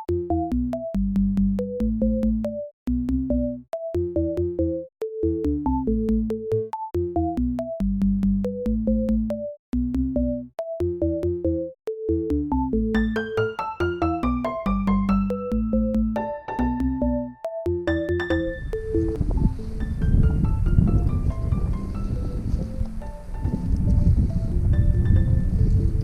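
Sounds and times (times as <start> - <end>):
electronic music with keyboard melody: 0.0 - 26.0.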